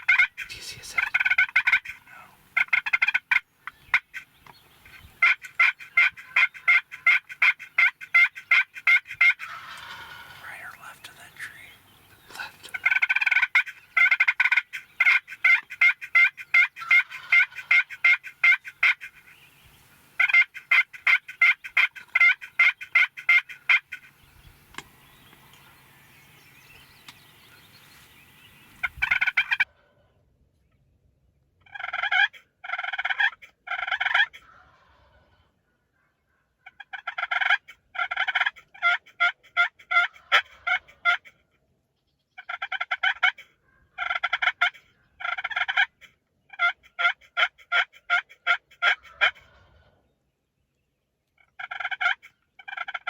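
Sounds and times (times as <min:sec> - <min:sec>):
wild turkeys calling: 0:00.0 - 0:29.9, 0:31.6 - 0:35.4, 0:36.6 - 0:41.4, 0:42.4 - 0:50.0, 0:51.4 - 0:53.0.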